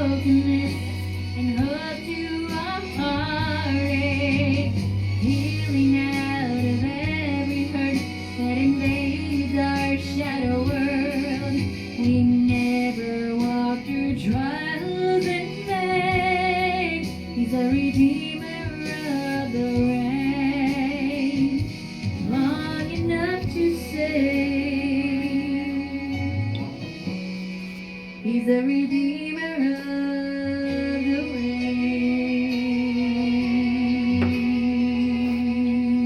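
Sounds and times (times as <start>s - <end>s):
karaoke backing track: 0.0s - 36.0s
woman singing worship ballad: 0.0s - 36.0s.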